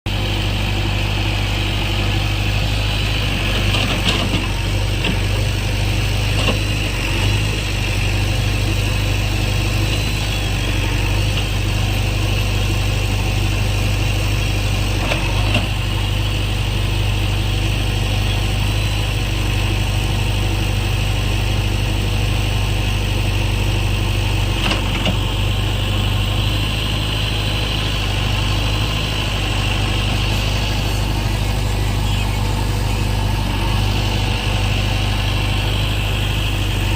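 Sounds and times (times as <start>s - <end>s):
diesel engine running: 0.1s - 36.9s.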